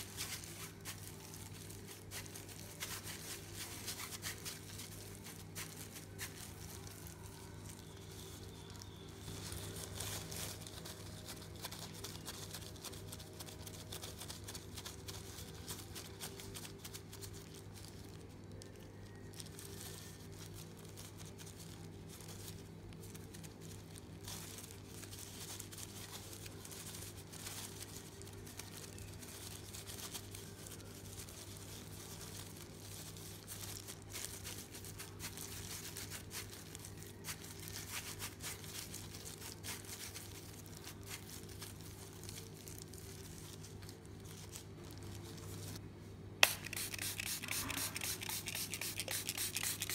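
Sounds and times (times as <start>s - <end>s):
plastic gloves crinkling: 0.0s - 49.9s.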